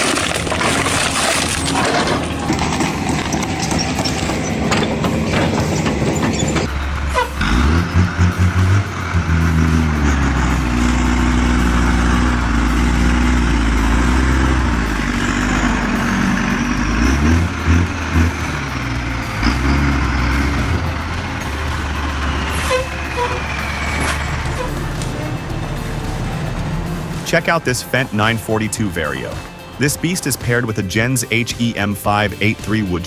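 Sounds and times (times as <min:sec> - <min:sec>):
heavy machine engine under load: 0:00.0 - 0:33.0.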